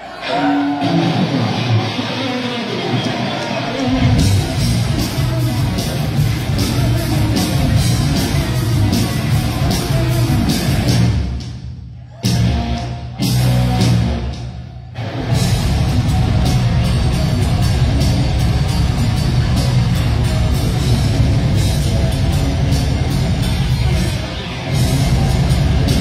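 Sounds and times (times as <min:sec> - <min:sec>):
heavy metal band playing: 0:00.0 - 0:11.6, 0:12.2 - 0:26.0
drums: 0:00.0 - 0:26.0
distorted electric guitar: 0:00.2 - 0:11.2, 0:12.3 - 0:14.4, 0:15.0 - 0:26.0.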